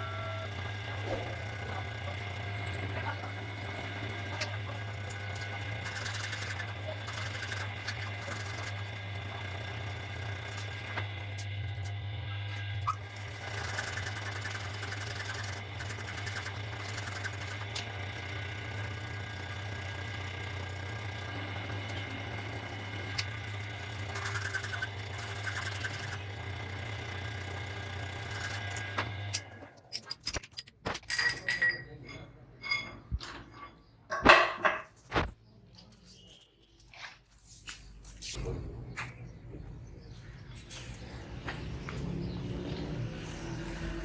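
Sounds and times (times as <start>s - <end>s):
workshop machine humming: 0.0s - 35.3s, 37.6s - 44.0s.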